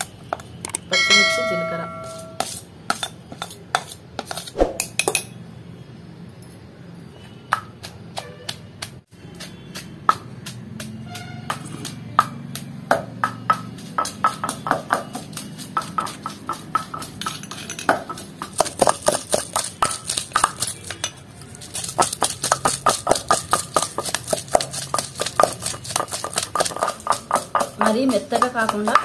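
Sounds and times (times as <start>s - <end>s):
pestle pounding in stone mortar: 0.7s - 4.8s, 7.5s - 29.0s.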